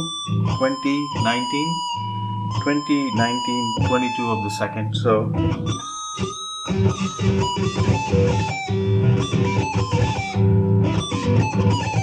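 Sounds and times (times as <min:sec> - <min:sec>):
electric guitar lead run: 0:00.0 - 0:12.0.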